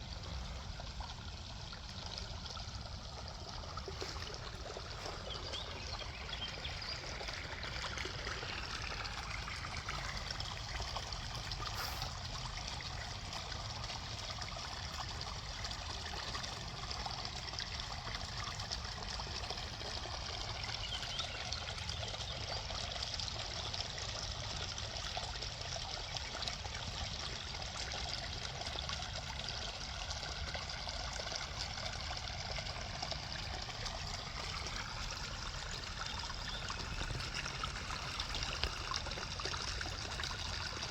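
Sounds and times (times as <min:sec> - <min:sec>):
brook babbling over rocks: 0:00.0 - 0:40.9.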